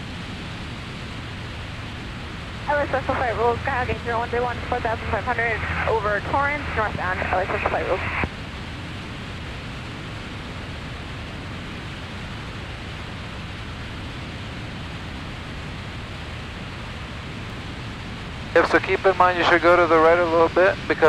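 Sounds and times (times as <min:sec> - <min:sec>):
light aircraft engine in cruise: 0:00.0 - 0:21.0.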